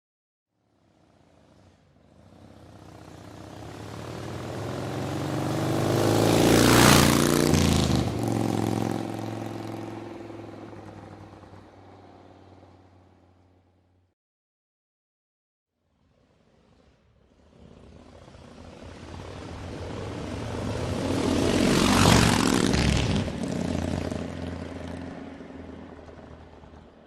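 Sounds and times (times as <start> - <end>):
motorcycle passing by: 0.6 - 14.0, 16.2 - 27.0.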